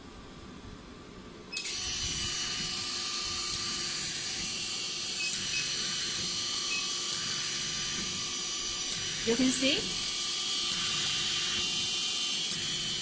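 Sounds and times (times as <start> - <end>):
air hiss with motor whine: 1.6 - 13.0
machine switching on: 1.6 - 13.0.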